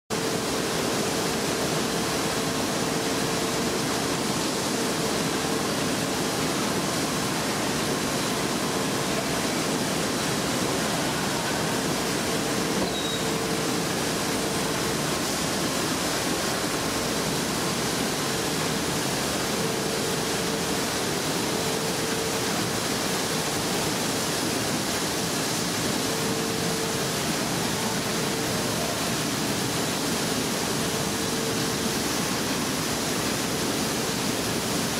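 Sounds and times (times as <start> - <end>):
faint machinery hum: 0.1 - 34.9.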